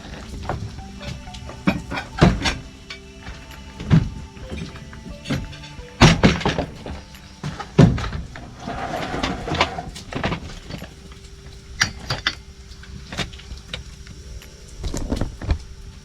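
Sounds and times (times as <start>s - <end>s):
scraping: 0.0s - 13.5s.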